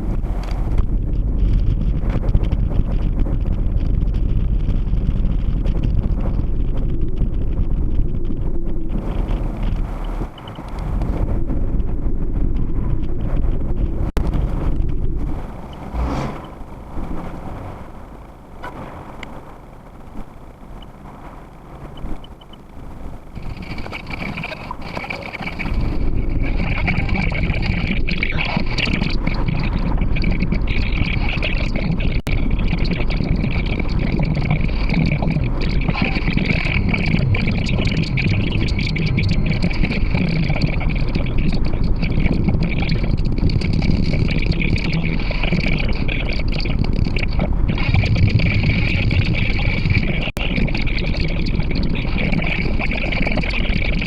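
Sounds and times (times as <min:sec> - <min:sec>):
road and wind rumble in car: 0:00.0 - 0:54.0.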